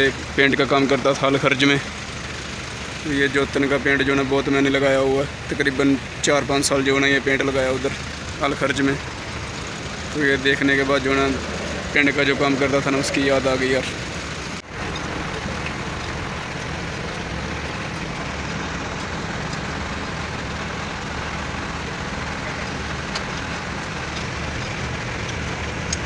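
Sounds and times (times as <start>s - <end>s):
diesel truck engine idling: 0.0s - 26.0s.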